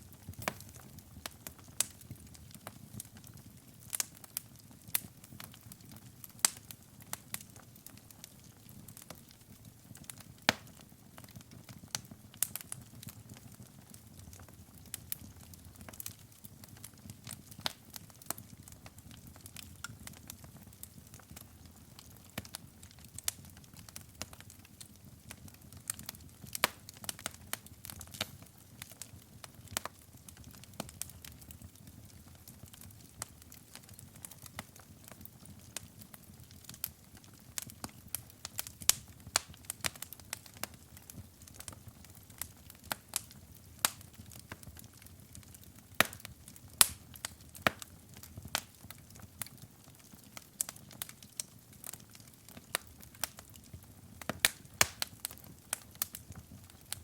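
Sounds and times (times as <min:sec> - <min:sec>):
burning logs crackling and popping: 0:00.0 - 0:57.0.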